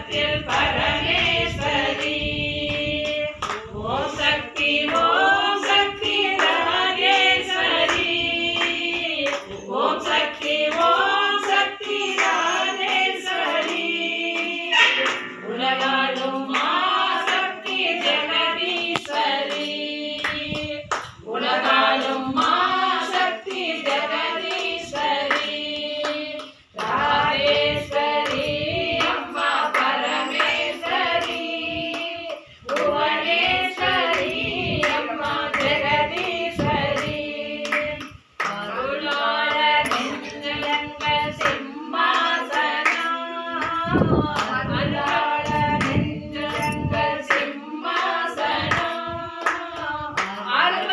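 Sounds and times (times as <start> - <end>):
women singing devotional song: 0.0 - 50.9
hand claps: 0.1 - 50.9.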